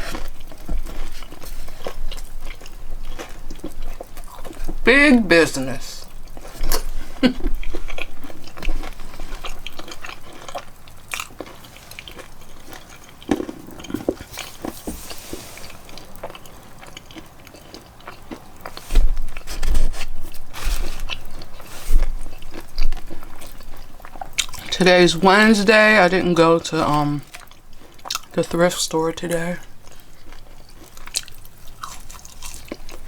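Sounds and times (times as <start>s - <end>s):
crunching and chewing food: 0.0s - 33.0s.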